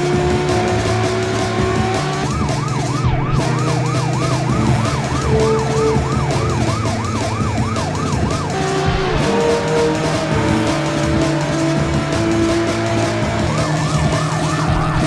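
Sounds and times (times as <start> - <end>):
car engine running: 0.0 - 15.0
police siren yelping: 0.0 - 15.0.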